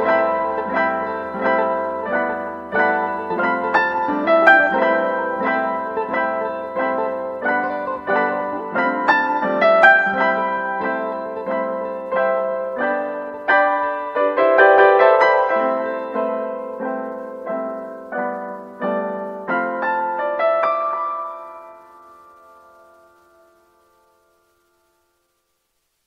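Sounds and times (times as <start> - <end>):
slow piano chords: 0.0 - 25.4.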